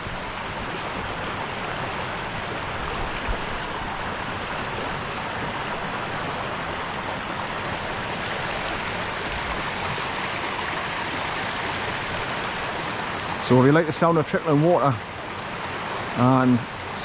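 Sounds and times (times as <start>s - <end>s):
stream water rushing over boulders: 0.0s - 17.0s.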